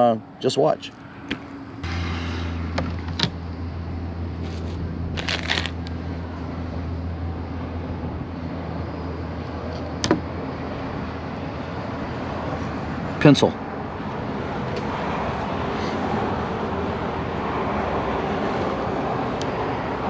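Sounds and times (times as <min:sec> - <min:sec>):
low motor hum: 0:01.4 - 0:20.0.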